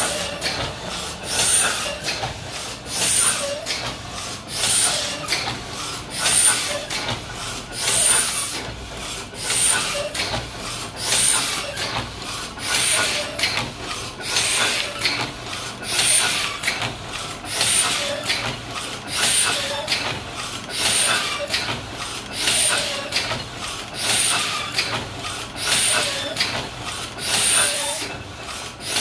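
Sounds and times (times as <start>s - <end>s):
printing press clatter and hiss: 0.0s - 29.0s.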